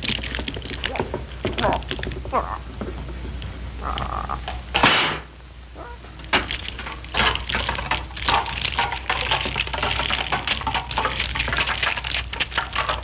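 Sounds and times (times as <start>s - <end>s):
rapid clattering and clicking: 0.0s - 13.0s
steady low hum: 0.0s - 13.0s.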